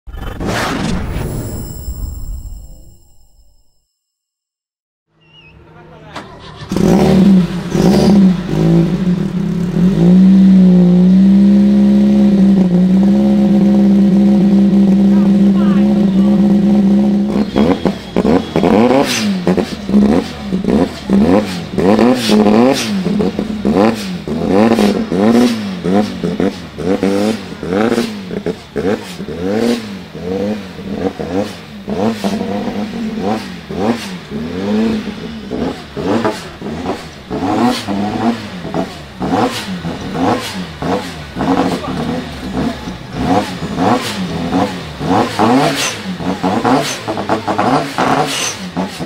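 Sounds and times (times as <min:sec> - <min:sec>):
engine revving with crackles: 0:06.2 - 0:49.0.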